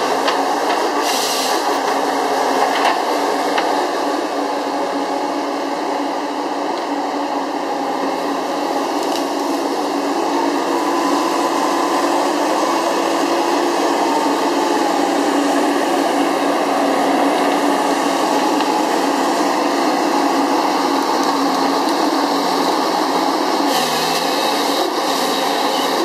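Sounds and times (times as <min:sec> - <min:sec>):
diesel engine and hydraulics running: 0:00.0 - 0:26.0.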